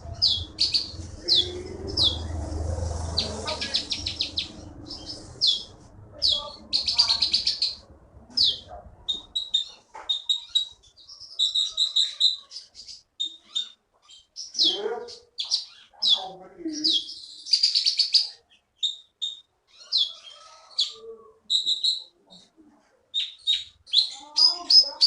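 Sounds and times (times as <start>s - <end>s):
bird singing varied song: 0.0s - 22.5s, 23.1s - 25.0s.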